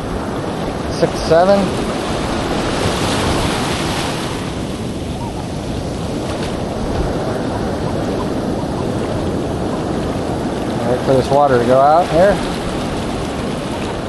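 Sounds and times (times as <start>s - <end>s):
ocean surf washing up: 0.0s - 14.0s
wind buffeting microphone: 0.0s - 14.0s.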